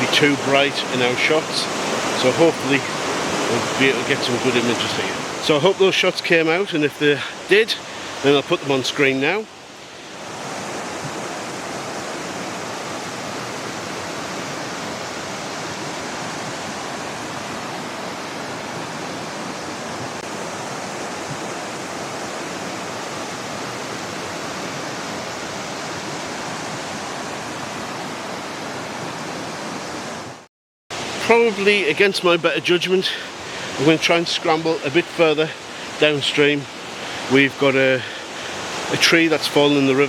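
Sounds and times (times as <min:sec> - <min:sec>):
river cascading over boulders: 0:00.0 - 0:30.4, 0:31.0 - 0:40.0.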